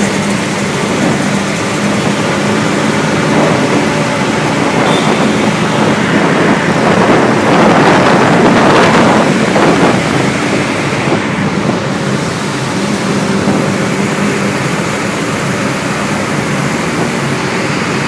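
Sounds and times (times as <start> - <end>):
motorbike engine running: 0.0 - 18.0
wind rushing over microphone: 0.0 - 18.0.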